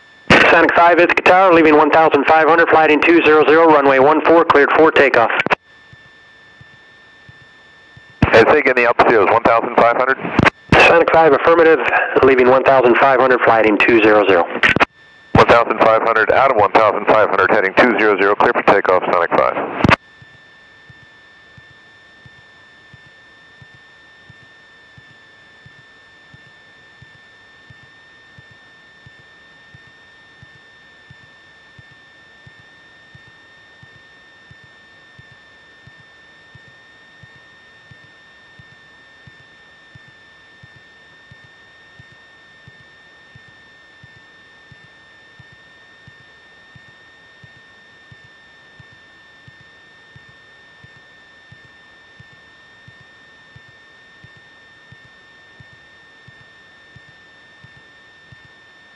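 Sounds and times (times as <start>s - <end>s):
high-pitched electrical whine: 0.0s - 58.9s.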